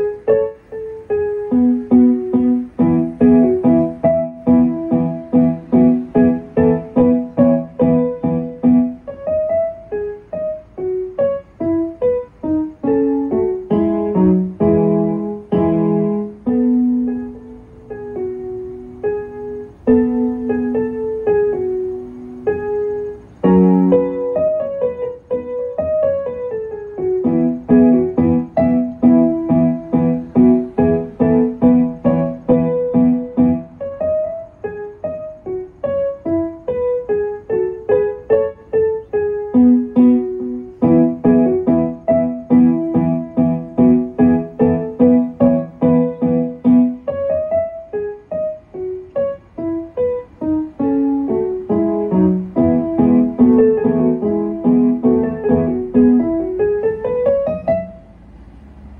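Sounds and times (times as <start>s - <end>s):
digital piano playing: 0.0s - 58.9s.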